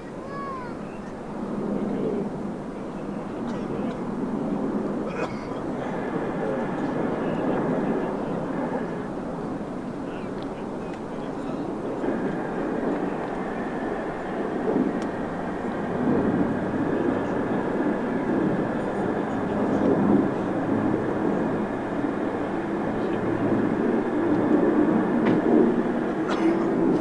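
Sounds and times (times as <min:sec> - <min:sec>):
steady hum: 0:00.0 - 0:27.0
turboprop engines droning overhead: 0:00.0 - 0:27.0.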